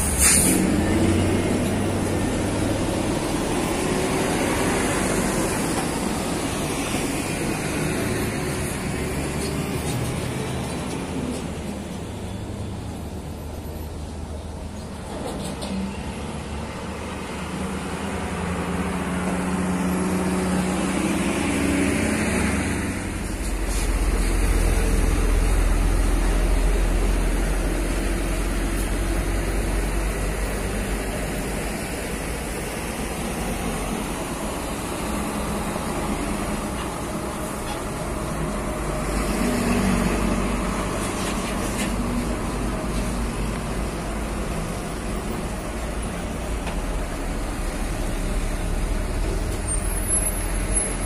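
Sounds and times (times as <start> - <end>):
diesel trucks passing: 0.0 - 51.0
traffic noise: 0.0 - 51.0.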